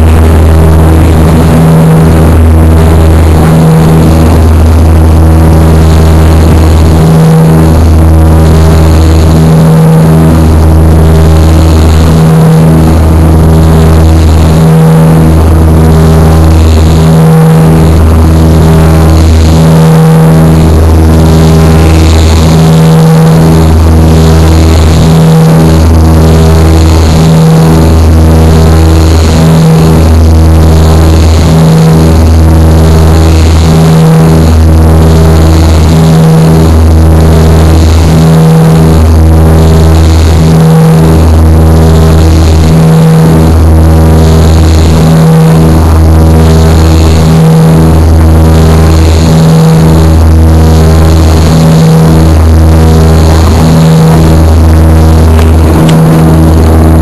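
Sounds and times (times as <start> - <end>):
propeller engines pulsing drone: 0.0 - 57.0.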